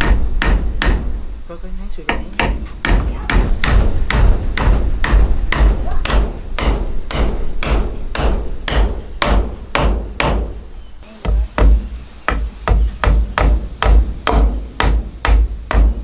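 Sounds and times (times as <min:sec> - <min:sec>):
hammering on wood: 0:00.0 - 0:01.2, 0:02.1 - 0:10.6, 0:11.2 - 0:16.0.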